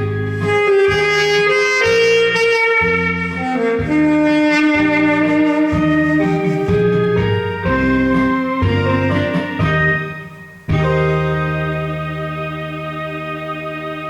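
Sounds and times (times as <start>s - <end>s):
backing track with pulsing bass: 0.0s - 14.0s
saxophone playing slow melody: 0.0s - 14.0s.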